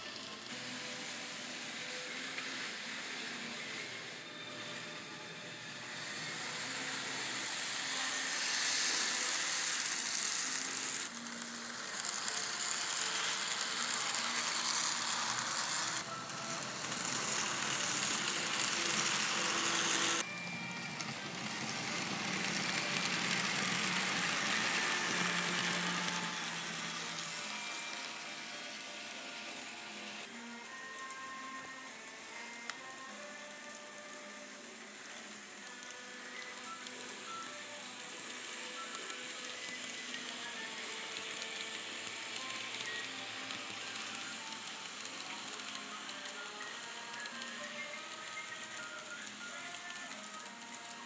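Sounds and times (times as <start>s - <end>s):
model trains rattling on track: 0.1s - 20.2s, 20.8s - 28.4s, 34.4s - 50.7s.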